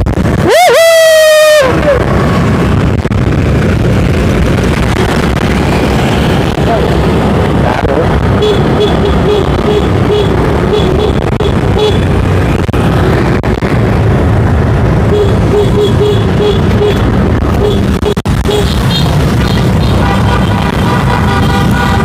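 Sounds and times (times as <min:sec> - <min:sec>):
motorbike engines: 0:00.0 - 0:22.0
wind noise: 0:00.0 - 0:22.0.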